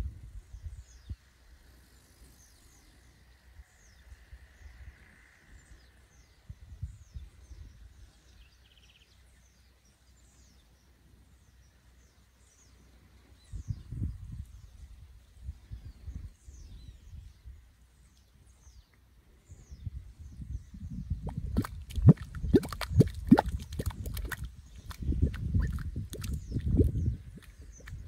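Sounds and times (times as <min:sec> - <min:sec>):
small birds chirping: 0:00.5 - 0:28.0.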